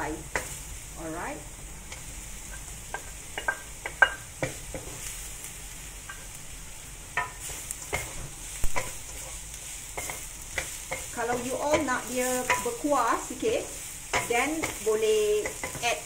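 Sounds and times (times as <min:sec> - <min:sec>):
food sizzling in oil: 0:00.0 - 0:16.0
wooden spatula scraping a wok: 0:01.9 - 0:06.4, 0:07.2 - 0:16.0.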